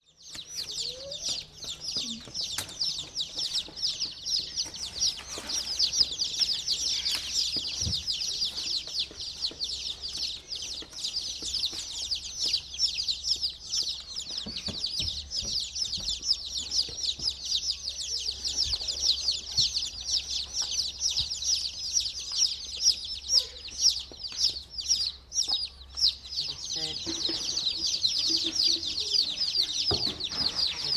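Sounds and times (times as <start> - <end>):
baby chicks peeping: 0.0 - 30.9.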